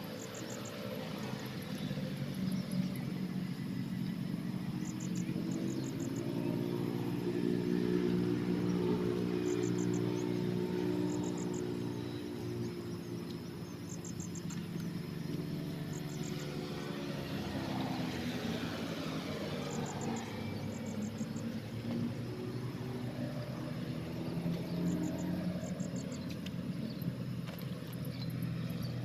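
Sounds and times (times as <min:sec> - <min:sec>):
high-pitched insect chirps: 0:00.0 - 0:27.1
engine running: 0:00.0 - 0:29.0.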